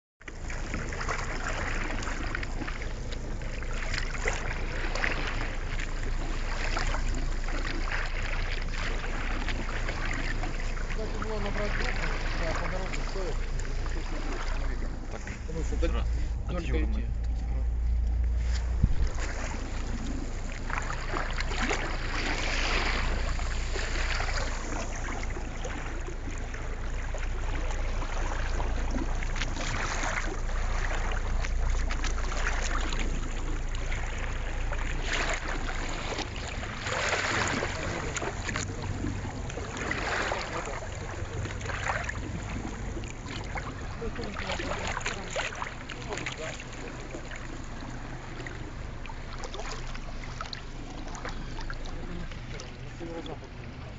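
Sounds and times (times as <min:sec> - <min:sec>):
wind: 0:00.0 - 0:53.9
water splashing along boat hull: 0:00.2 - 0:53.9
low rumble: 0:00.3 - 0:53.9.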